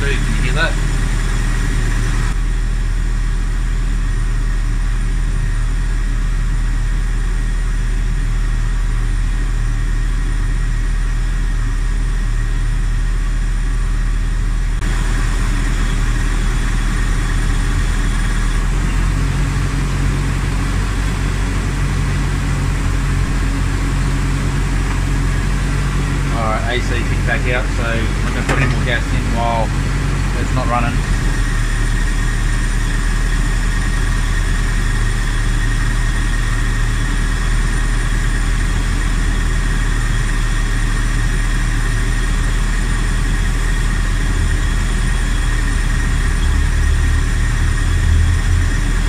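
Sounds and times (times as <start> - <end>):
fan belt whine: 0.0 - 49.0
van engine idling: 0.0 - 49.0.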